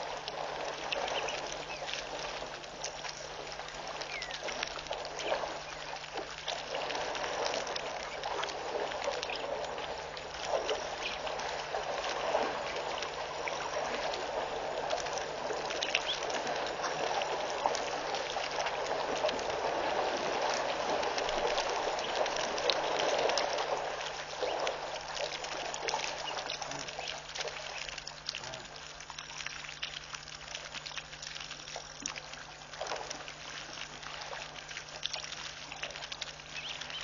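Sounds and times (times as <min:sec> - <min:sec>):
water dripping: 0:00.0 - 0:37.0
water splashing and trickling: 0:00.0 - 0:37.0.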